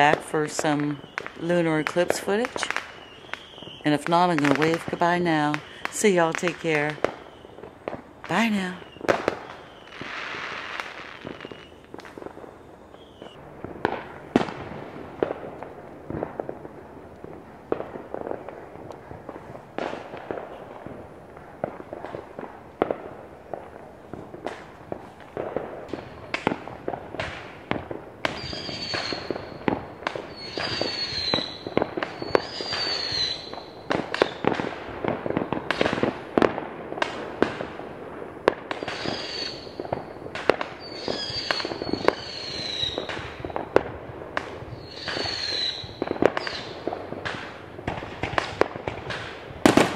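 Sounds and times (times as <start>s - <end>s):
fireworks bangs and crackling: 0.0s - 49.9s
fireworks whistling: 0.0s - 49.9s.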